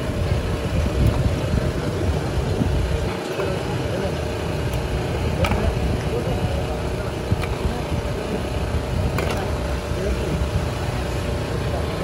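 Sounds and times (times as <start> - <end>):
indistinct voices: 0.0 - 12.0
traffic rumble: 0.0 - 12.0.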